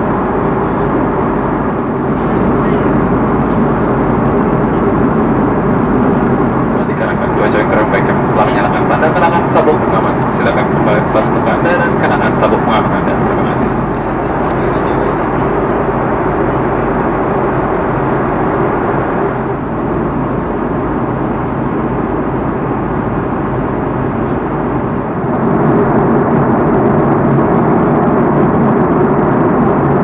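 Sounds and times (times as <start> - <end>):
aircraft cabin air rush: 0.0 - 30.0
jet engine drone: 0.0 - 30.0.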